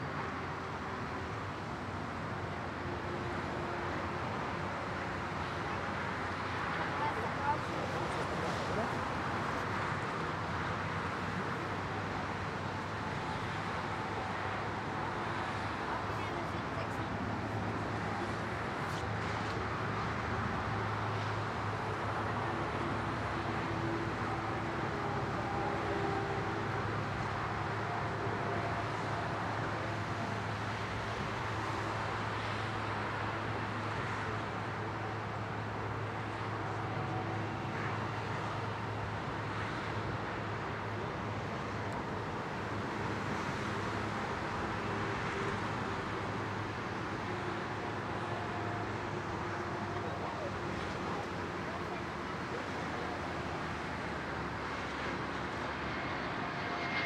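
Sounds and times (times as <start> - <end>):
airport engine hum and rumble: 0.0 - 57.0.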